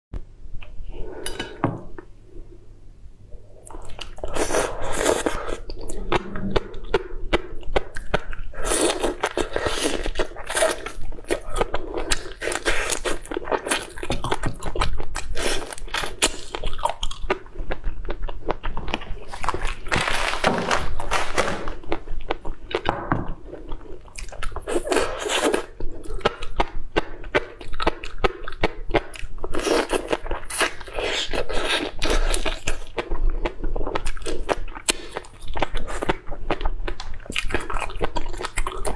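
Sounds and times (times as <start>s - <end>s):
person chewing and crunching food: 3.4s - 38.9s.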